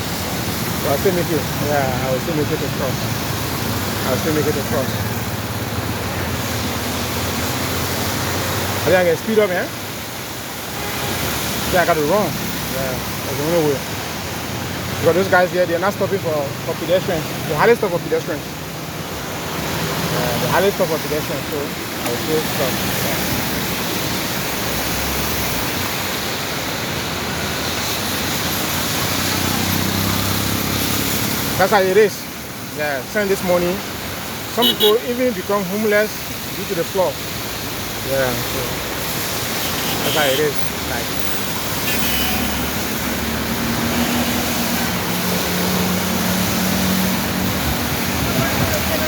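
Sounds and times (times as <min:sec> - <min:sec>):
vehicle engine humming: 0:00.0 - 0:35.2, 0:36.2 - 0:49.0
heavy rain falling: 0:00.0 - 0:49.0
wet street noise: 0:00.0 - 0:49.0.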